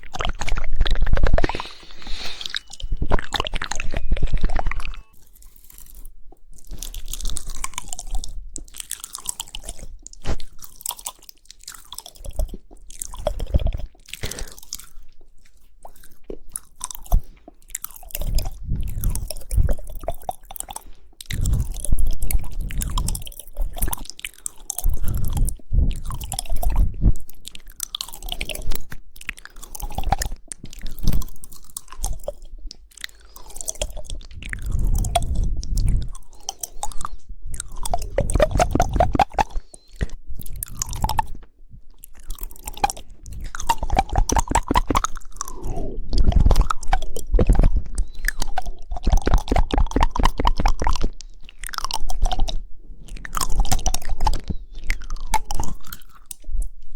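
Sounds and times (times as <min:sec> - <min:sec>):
rapid fluttering tongue clicks: 0:00.0 - 0:56.8
wet tongue clicks and smacks: 0:00.0 - 0:56.9.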